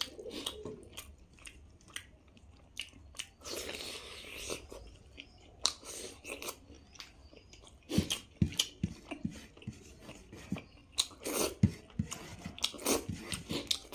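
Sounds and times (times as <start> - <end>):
person chewing and crunching food: 0.0 - 13.9.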